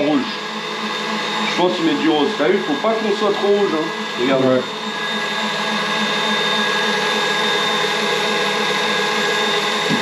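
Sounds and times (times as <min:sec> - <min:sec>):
kitchen robot motor humming: 0:00.0 - 0:10.0.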